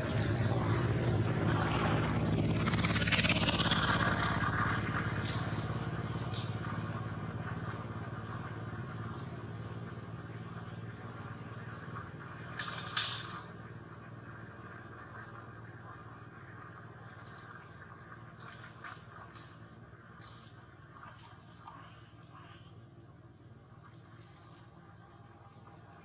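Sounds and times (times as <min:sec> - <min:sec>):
motorcycle engine running: 0:00.0 - 0:22.2.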